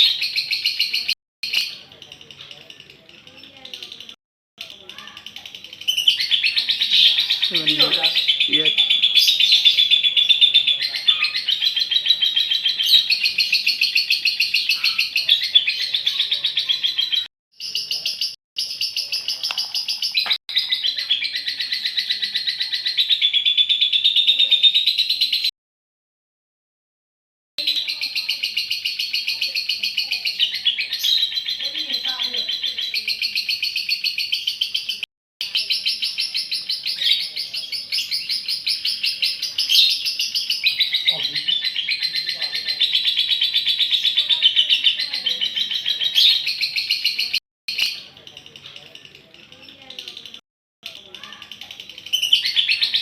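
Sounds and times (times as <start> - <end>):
lovebird chattering trill: 0.0 - 25.5, 27.6 - 48.4, 49.0 - 53.0.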